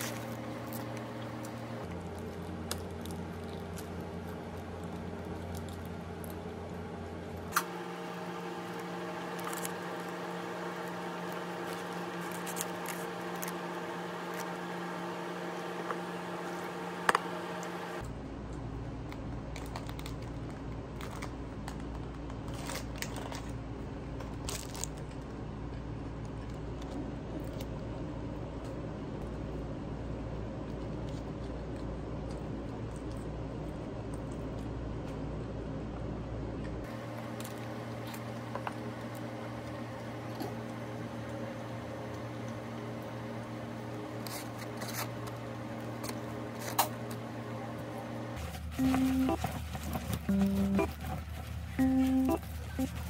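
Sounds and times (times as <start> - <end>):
steady indoor hum: 0.0 - 53.0.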